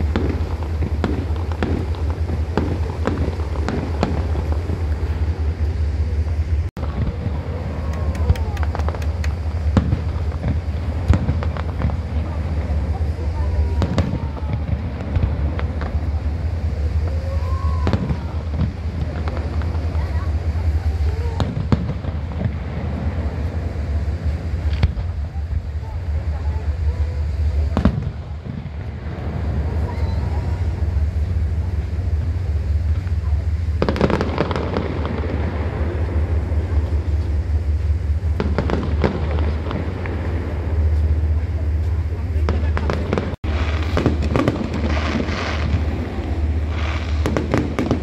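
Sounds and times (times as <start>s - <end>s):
fireworks bangs and crackles: 0.0s - 48.0s
low rumble: 0.0s - 48.0s.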